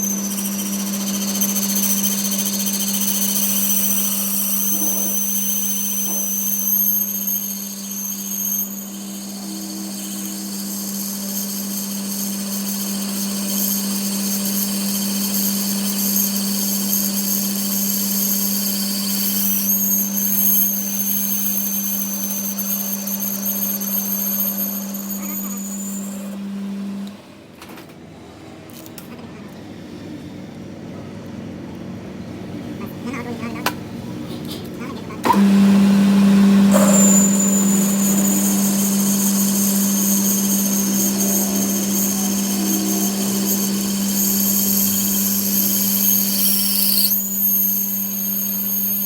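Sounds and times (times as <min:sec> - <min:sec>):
power tool humming and whining: 0:00.0 - 0:27.2, 0:32.4 - 0:49.0.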